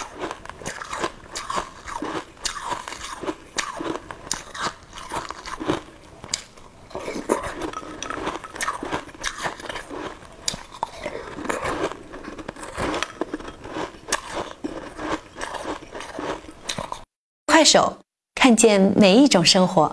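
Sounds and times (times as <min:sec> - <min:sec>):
person chewing: 0:00.0 - 0:17.1.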